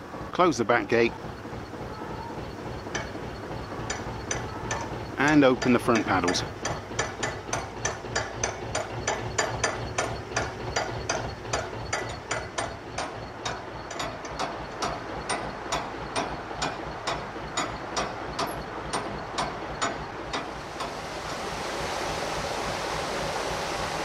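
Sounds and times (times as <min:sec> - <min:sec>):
ratchet pawl clicking: 0:01.1 - 0:20.5.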